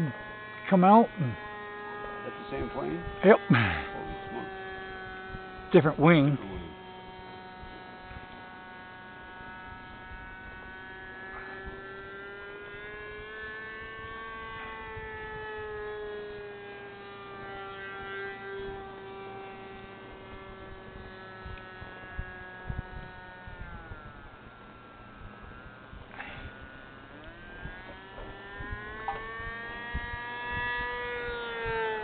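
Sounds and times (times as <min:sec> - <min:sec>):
model plane engine high-pitched: 0:00.0 - 0:32.0.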